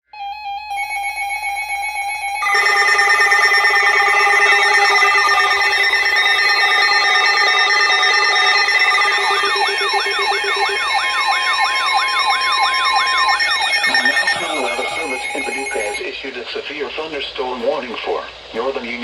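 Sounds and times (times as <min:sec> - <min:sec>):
steady electronic alarm tones: 0:00.2 - 0:16.1
sweeping siren-like tone: 0:00.7 - 0:16.0.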